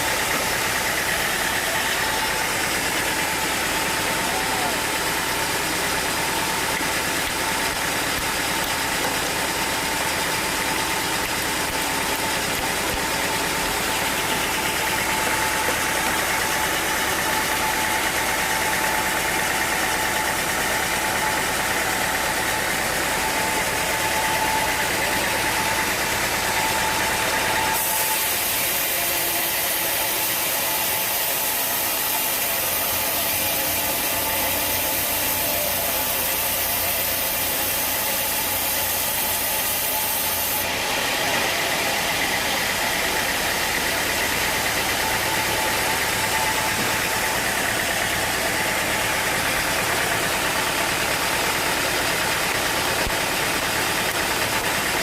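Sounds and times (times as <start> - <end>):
sawmill machinery hum and hiss: 0.0 - 55.0.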